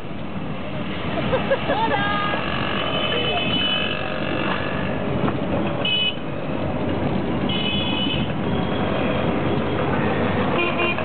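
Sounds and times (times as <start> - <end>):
street traffic: 0.0 - 11.0
auto-rickshaw engine running: 1.3 - 11.0.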